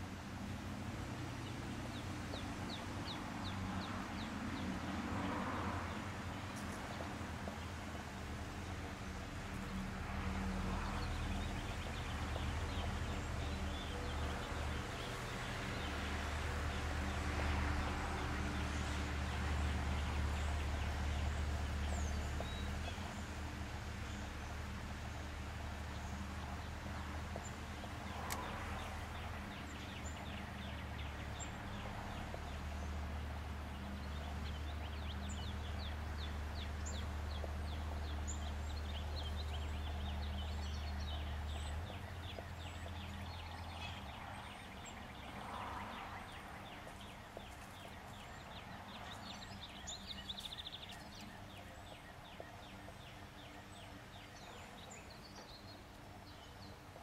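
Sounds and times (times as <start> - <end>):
small birds chirping and trilling: 0.4 - 57.0.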